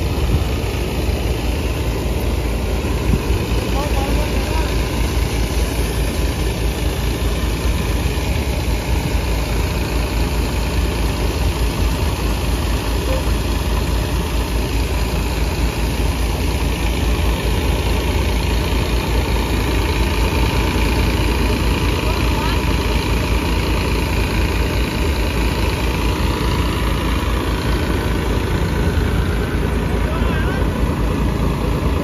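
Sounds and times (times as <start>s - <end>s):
thresher whirring and rattling: 0.0s - 32.0s
tractor engine rumble: 0.0s - 32.0s.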